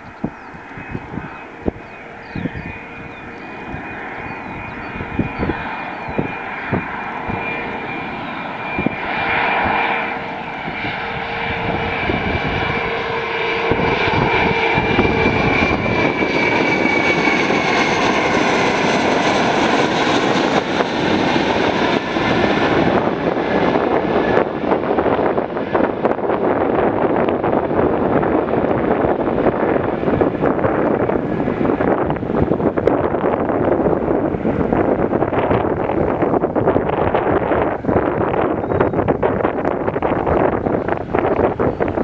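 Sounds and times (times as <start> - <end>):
airliner jet engines passing overhead: 0.0 - 42.0.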